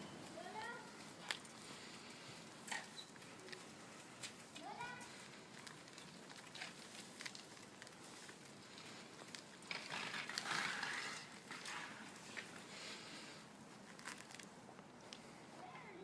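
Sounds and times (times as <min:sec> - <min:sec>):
footsteps crunching on forest path: 0:00.0 - 0:15.4
rustle of leaves: 0:00.0 - 0:16.0.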